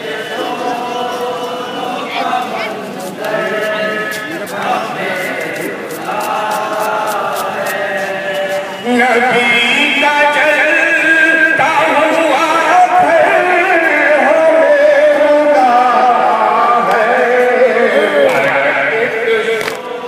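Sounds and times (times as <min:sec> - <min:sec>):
man chanting a lament: 0:03.3 - 0:20.0.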